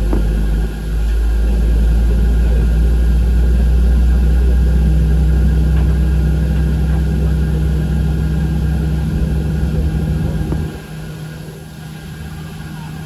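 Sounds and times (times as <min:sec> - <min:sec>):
jet engines rumble in cabin: 0:00.0 - 0:13.0.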